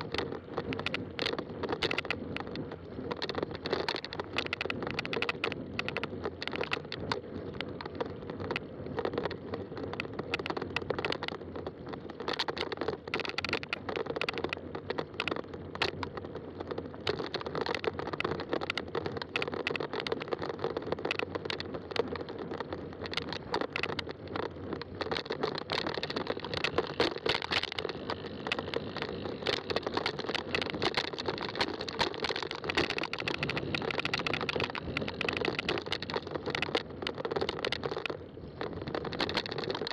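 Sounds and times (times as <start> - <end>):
bike rattling: 0.0 - 39.9
bike tyres rolling on trail: 0.0 - 39.9.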